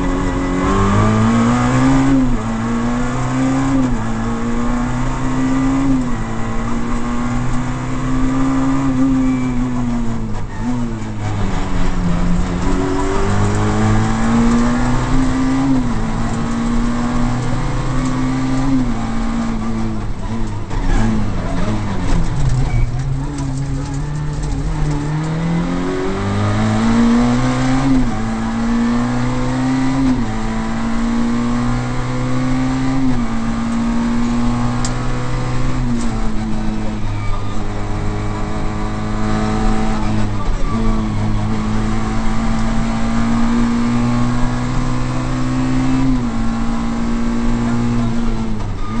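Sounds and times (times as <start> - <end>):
rally car engine at full throttle: 0.0 - 49.0.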